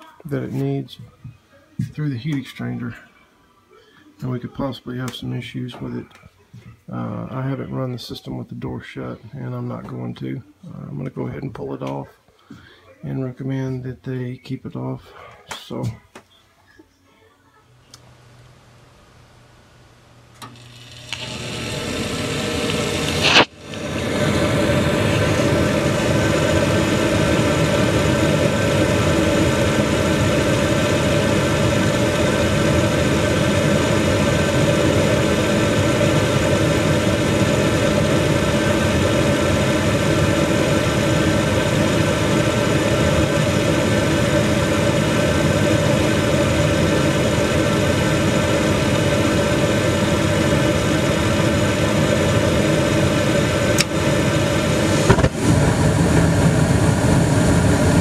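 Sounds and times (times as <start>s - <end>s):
hvac unit humming: 0.0s - 58.0s.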